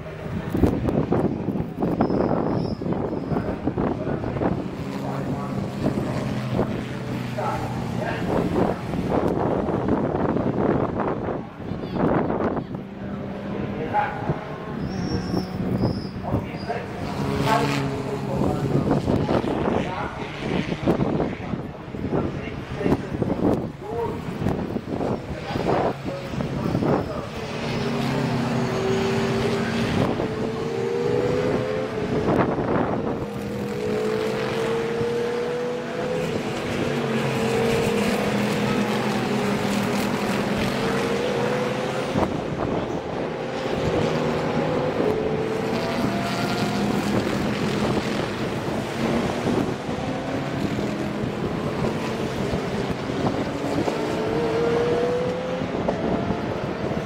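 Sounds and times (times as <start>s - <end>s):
racing cars accelerating past: 0.0s - 11.4s, 12.0s - 57.0s.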